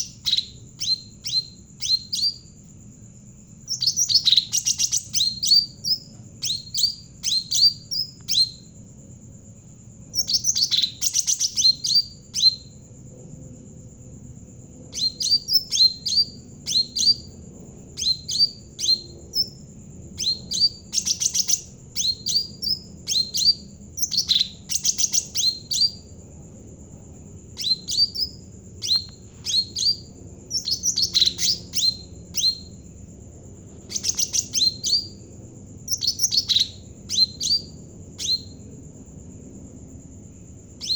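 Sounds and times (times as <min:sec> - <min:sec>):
songbird chirping: 0:00.0 - 0:12.9, 0:14.9 - 0:26.1, 0:27.5 - 0:33.0, 0:33.8 - 0:38.8
faint high whine: 0:00.0 - 0:40.9.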